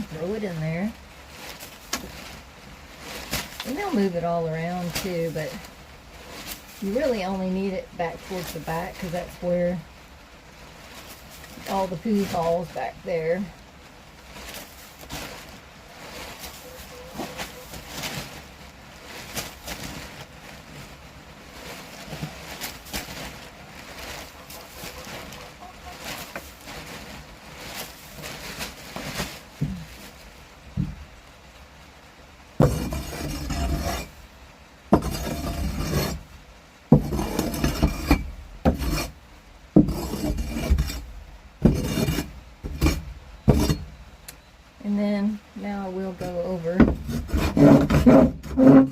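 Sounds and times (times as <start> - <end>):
wood shavings scraping: 0.0 - 31.6, 32.5 - 44.2, 45.2 - 48.9.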